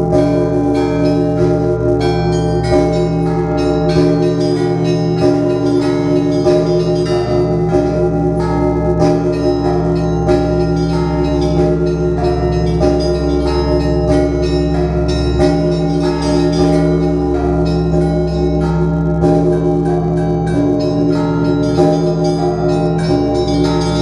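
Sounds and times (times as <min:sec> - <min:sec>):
church bells ringing: 0:00.0 - 0:24.0
deep hum: 0:00.0 - 0:24.0.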